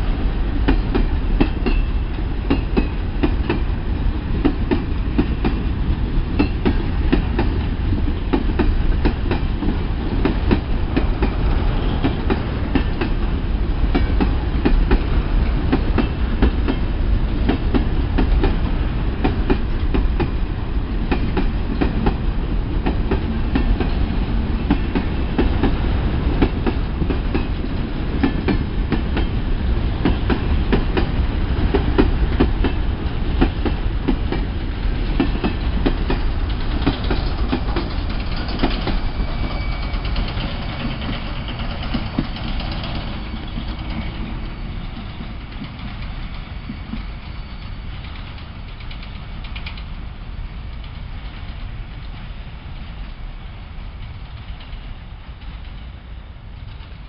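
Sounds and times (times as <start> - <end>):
train wheels rumbling on rail: 0.0 - 57.0
wheels clacking over rail joints: 0.6 - 50.0.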